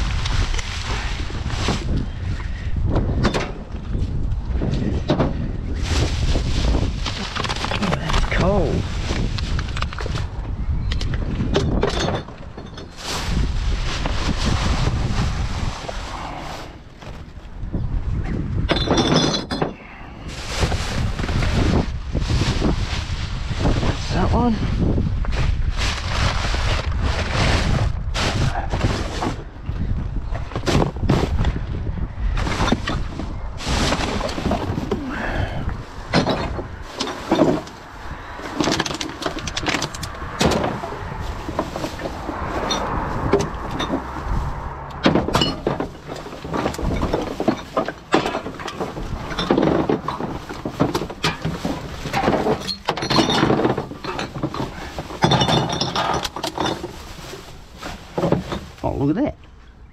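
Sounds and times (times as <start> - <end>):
rubbish rummaged in a bin: 0.0 - 59.4
wind buffeting microphone: 0.0 - 59.9.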